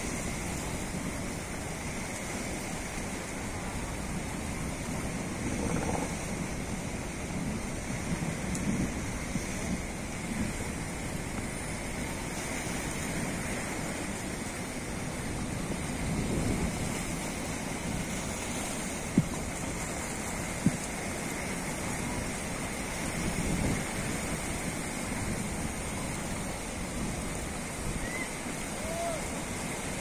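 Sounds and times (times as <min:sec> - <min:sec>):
water rushing along boat hull: 0:00.0 - 0:30.0.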